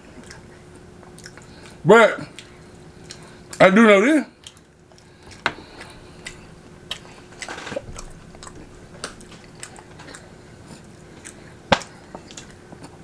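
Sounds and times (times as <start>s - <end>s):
person chewing: 0.0s - 3.6s, 4.3s - 13.0s.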